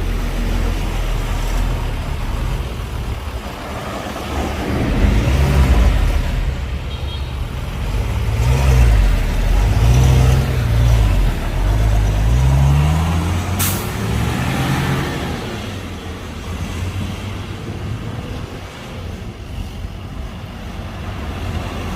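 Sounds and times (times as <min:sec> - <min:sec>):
diesel engine revving: 0:00.0 - 0:21.9.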